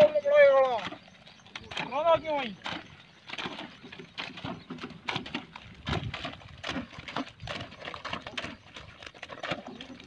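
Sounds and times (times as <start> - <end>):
hoes squelching in wet mud: 0.0 - 10.0.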